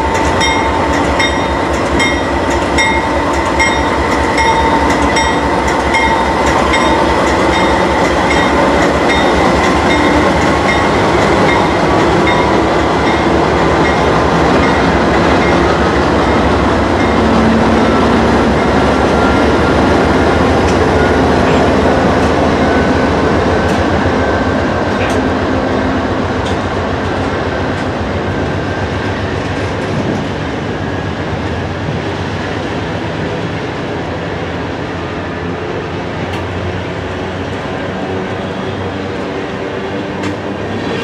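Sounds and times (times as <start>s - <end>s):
diesel locomotive engine rumbling: 0.0s - 41.0s.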